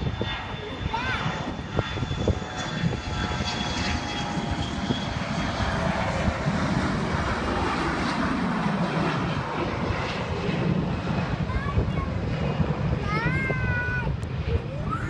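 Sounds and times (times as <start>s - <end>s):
jet engine whine: 0.0s - 15.0s
jet engines rumbling: 0.0s - 15.0s.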